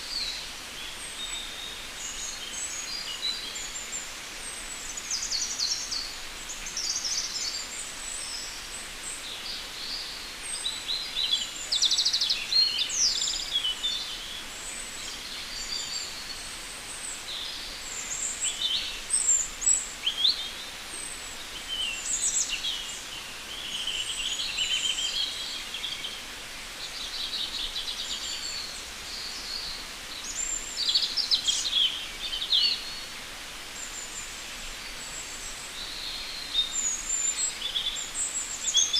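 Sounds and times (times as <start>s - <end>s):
birds singing and calling: 0.0s - 38.9s
faint hiss: 0.0s - 38.9s.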